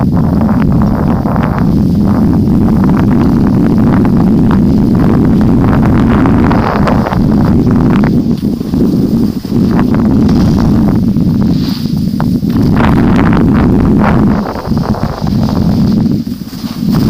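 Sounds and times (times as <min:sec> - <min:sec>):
wind buffeting microphone: 0:00.0 - 0:17.0
skis sliding on snow: 0:00.2 - 0:17.0.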